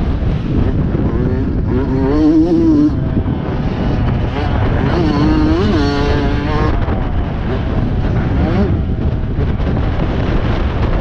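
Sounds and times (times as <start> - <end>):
motocross bike engine running hard: 0.0 - 11.0.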